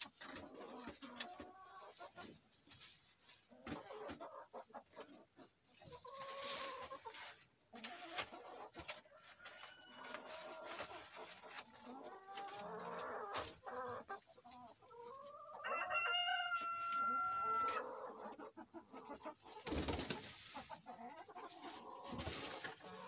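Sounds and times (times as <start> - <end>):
egg cartons rustling: 0.0 - 23.0
hens clucking: 0.0 - 23.0.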